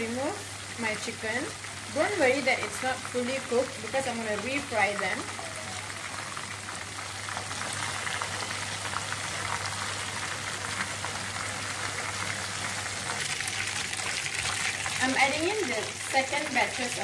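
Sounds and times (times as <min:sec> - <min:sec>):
chicken deep-frying in oil: 0:00.0 - 0:17.0.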